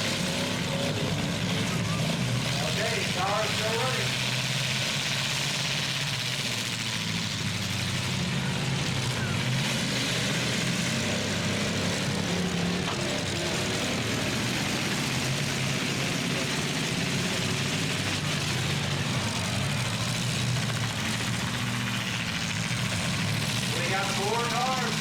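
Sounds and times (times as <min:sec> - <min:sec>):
truck engines droning: 0:00.0 - 0:25.0.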